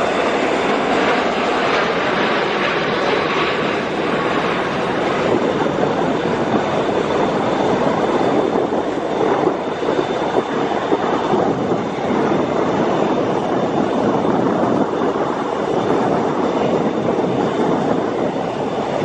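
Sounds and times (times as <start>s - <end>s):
jet engines in flight: 0.0s - 19.0s.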